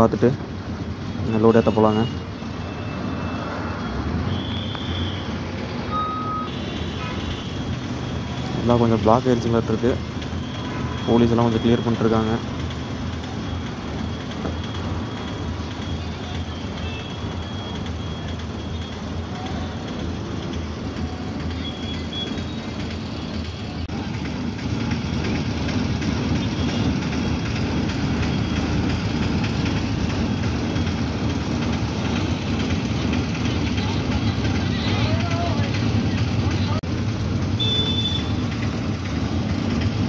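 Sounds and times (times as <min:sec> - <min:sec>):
lorry engine running: 0:00.0 - 0:40.0.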